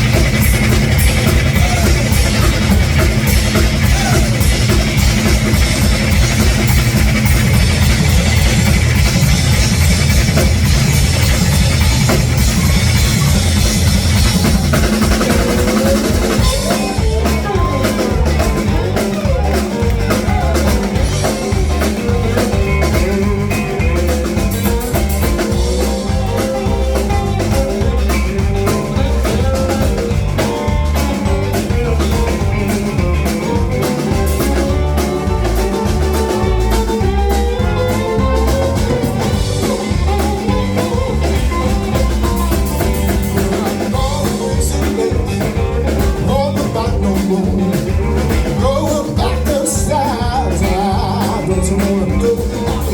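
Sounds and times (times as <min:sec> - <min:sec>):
blues band playing: 0:00.0 - 0:52.9
guitar lead with bending notes: 0:00.0 - 0:52.9.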